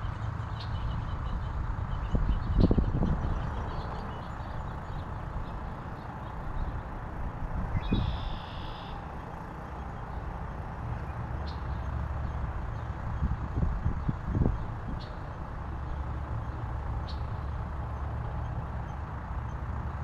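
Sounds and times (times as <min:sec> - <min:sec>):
low outdoor background rumble: 0:00.0 - 0:20.0.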